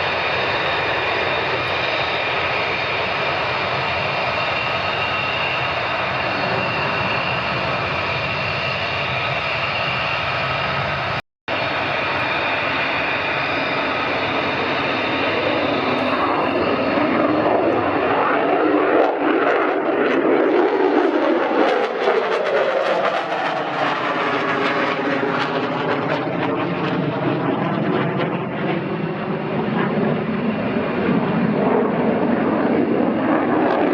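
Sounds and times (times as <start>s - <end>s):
fighter jet engine passing: 0.0s - 33.9s.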